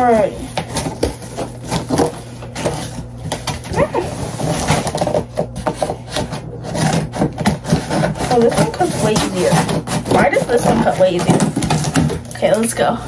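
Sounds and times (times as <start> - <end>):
scissors cutting cardboard: 0.5 - 12.4.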